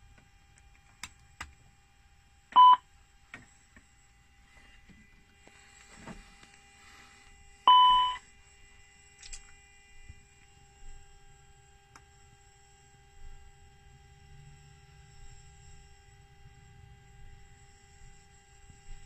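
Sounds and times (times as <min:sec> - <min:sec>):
faint avionics whine: 0:00.0 - 0:19.0.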